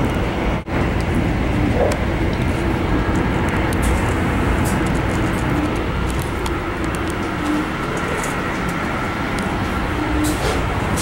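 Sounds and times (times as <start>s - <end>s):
train cabin rumble and rushing: 0.0s - 11.0s.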